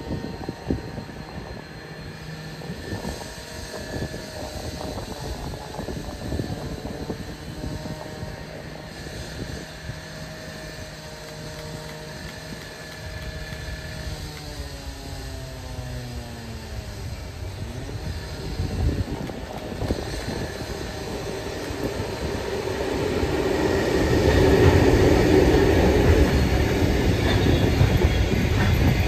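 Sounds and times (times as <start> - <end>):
distant diesel locomotive drone: 0.0 - 29.0.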